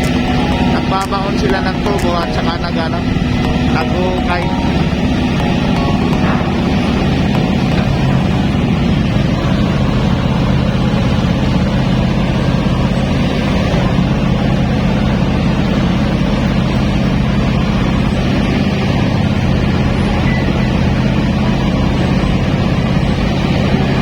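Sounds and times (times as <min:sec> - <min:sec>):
large engine droning: 0:00.0 - 0:24.0.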